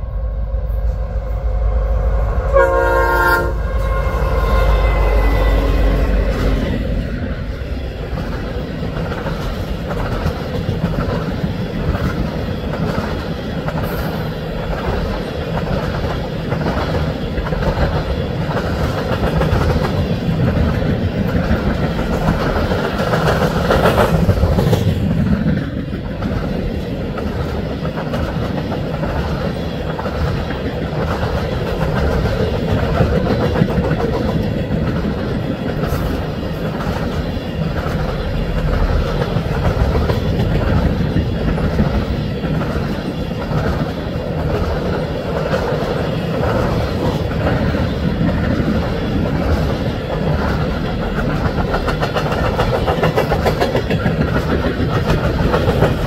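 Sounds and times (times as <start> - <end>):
train wheels rumbling on rail: 0.0 - 56.0
clickety-clack over rail joints: 5.5 - 56.0.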